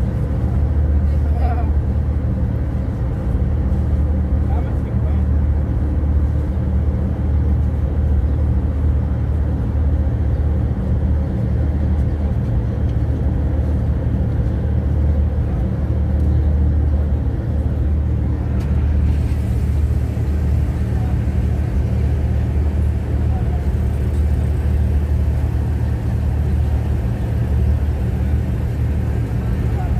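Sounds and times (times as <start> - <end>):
road noise: 0.0 - 29.9
van engine drone: 0.0 - 29.9.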